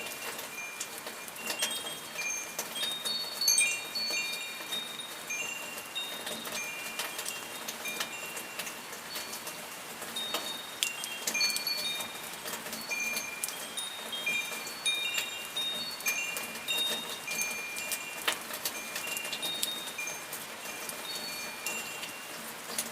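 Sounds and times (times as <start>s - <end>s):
high chimes ringing: 0.0s - 22.4s
rain hiss: 0.0s - 22.9s
water drips ticking: 0.0s - 22.9s.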